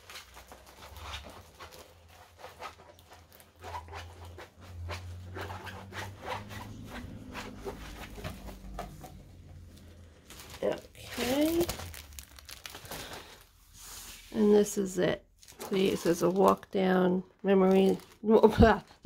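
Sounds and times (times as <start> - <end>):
plastic packaging rustling: 0.0 - 19.0.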